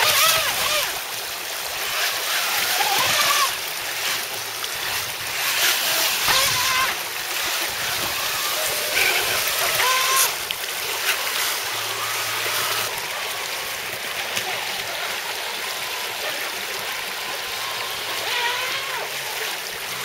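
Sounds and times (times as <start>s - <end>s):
model boat motor whine: 0.0s - 20.0s
whitewater rushing and splashing: 0.0s - 20.0s.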